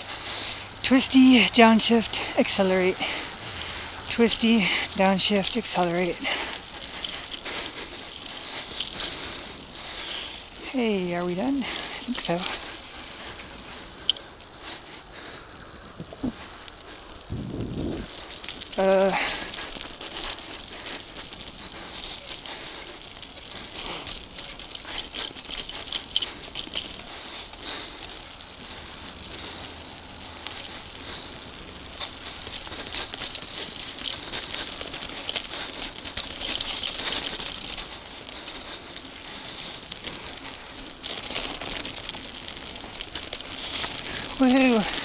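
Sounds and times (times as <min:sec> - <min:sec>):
bike rattling over bumps: 0:00.0 - 0:45.0
tyres crunching on dirt: 0:00.0 - 0:45.0.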